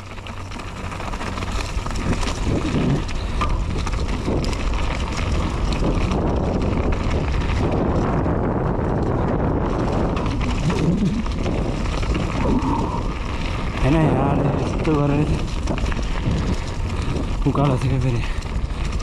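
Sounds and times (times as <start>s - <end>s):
mountain bike rattling on dirt: 0.0s - 19.0s
wind on microphone: 1.7s - 19.0s.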